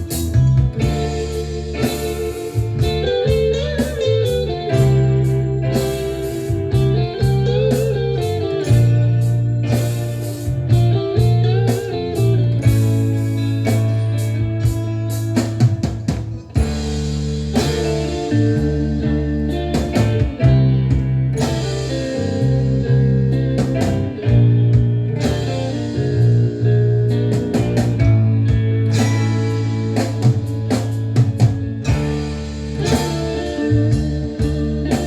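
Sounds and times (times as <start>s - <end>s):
bass guitar: 0.0s - 35.0s
drum kit with cymbal hits: 0.0s - 35.0s
electric guitar playing: 0.0s - 35.0s.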